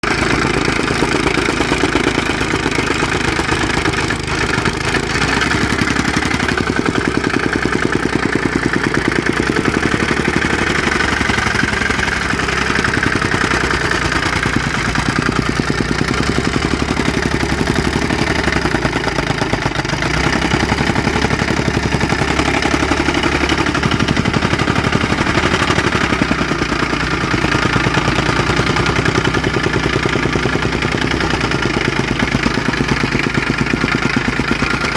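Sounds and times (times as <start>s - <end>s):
soil compactor clattering: 0.0s - 34.9s.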